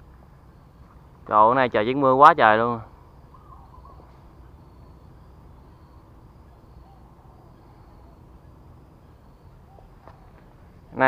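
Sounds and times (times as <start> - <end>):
faint bird calls: 0.0 - 11.0
low steady rumble: 0.0 - 11.0.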